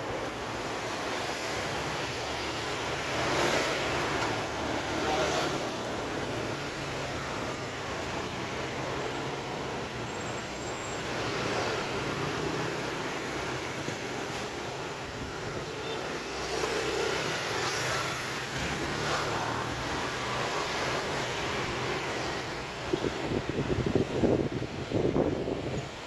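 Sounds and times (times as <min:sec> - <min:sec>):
street noise: 0:00.0 - 0:26.0.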